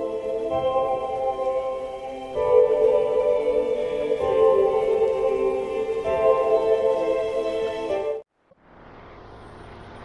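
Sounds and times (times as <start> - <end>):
ambient sustained chords music: 0.0 - 8.3.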